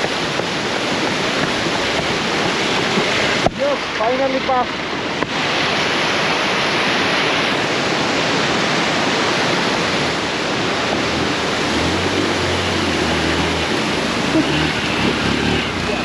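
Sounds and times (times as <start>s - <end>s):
motorcycle engine hum: 0.0s - 16.0s
river water roaring: 0.0s - 16.0s.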